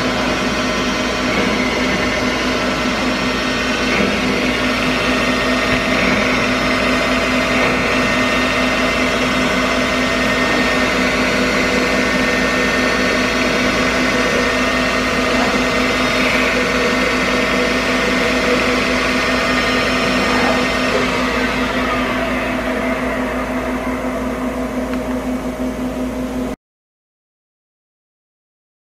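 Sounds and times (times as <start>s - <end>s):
lathe machine whine and hum: 0.0s - 26.6s.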